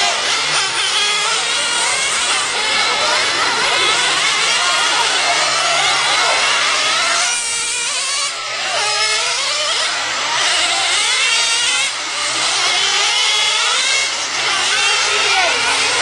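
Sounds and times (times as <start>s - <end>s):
rc car engines revving: 0.0s - 16.0s.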